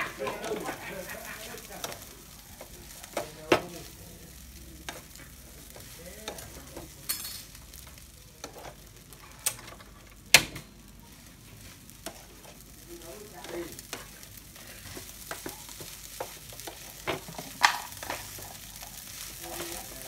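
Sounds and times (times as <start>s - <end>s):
rice sizzling in a pan: 0.0s - 20.0s.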